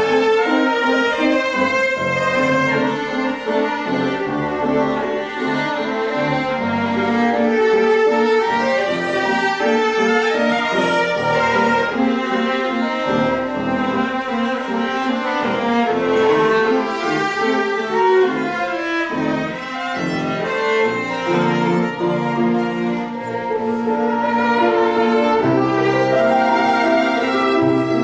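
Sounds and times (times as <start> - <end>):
cello low notes: 0.0 - 28.0
string and piano quartet: 0.0 - 28.0.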